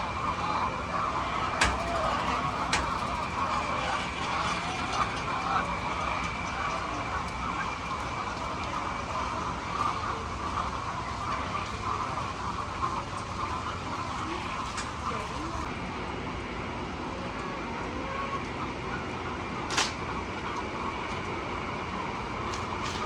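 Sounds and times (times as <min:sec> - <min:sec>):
hens clucking: 0:00.0 - 0:15.7, 0:16.8 - 0:23.0.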